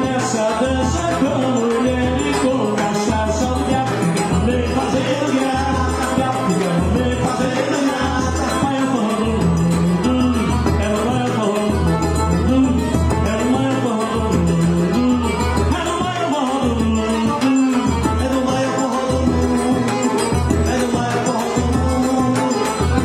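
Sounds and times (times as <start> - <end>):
accordion melody: 0.0 - 23.0.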